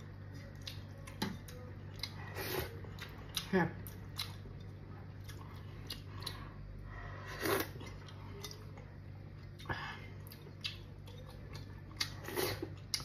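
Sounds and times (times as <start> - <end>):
steady low hum: 0.0 - 13.0
person chewing and lip smacking: 0.2 - 6.6, 7.4 - 13.0.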